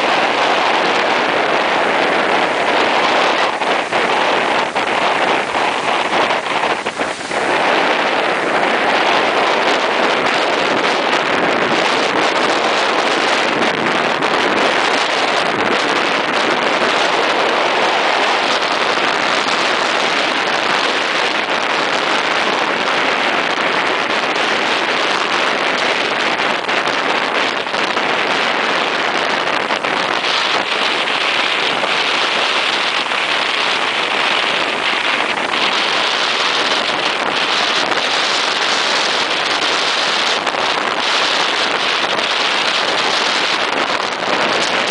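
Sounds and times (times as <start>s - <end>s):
breaking surf rushing: 0.0s - 44.9s
wind rumbling on microphone: 0.0s - 44.9s.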